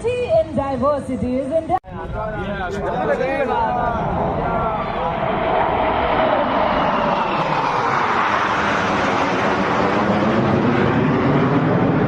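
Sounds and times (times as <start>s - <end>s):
military jet flying past: 1.9s - 12.0s.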